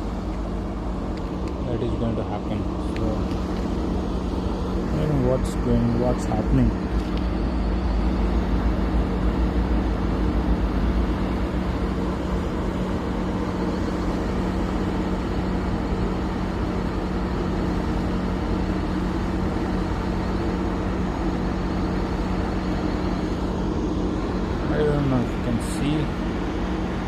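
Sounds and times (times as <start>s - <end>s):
boat diesel engines droning: 0.0s - 27.0s.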